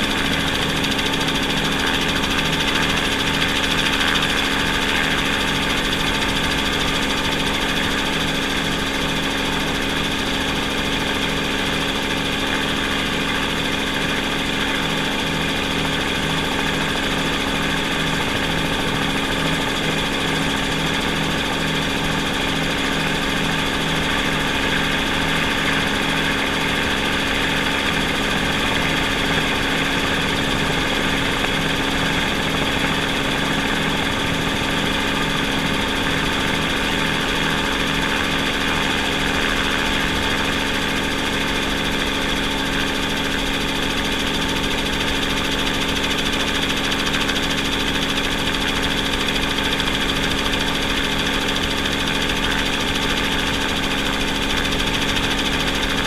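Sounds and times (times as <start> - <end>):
drone rotors humming and whining: 0.0 - 56.0
low pulsing throb: 0.0 - 56.0.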